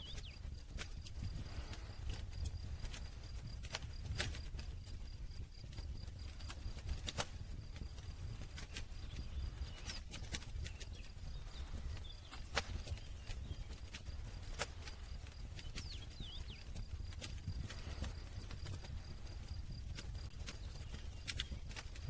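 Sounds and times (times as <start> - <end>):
crackles and pops of burning wood: 0.0 - 22.0
low rumble of flames: 0.0 - 22.0.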